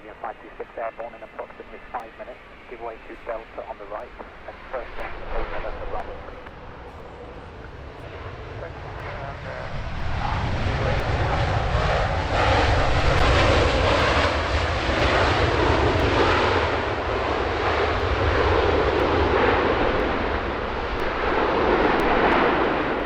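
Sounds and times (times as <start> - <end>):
jet airliner engine passing: 0.0 - 23.0.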